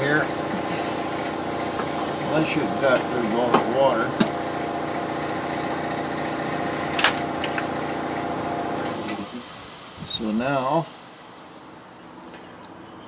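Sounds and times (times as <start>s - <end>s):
air compressor motor humming: 0.0s - 12.3s.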